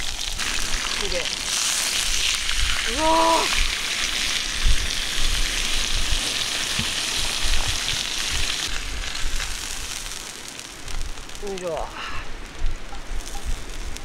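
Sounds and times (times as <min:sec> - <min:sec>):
steak sizzling in a pan: 0:00.0 - 0:11.8, 0:12.6 - 0:14.0.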